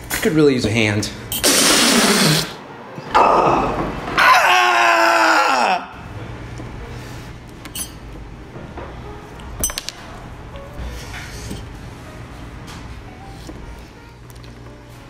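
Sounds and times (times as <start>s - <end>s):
faint background music: 2.6s - 15.0s.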